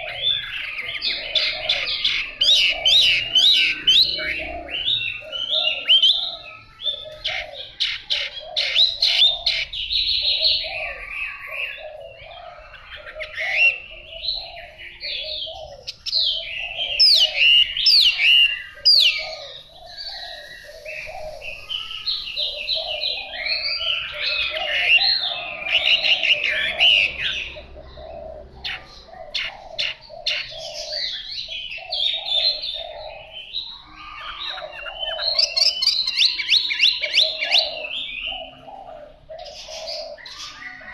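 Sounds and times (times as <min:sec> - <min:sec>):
lower bird call: 0:00.0 - 0:40.9.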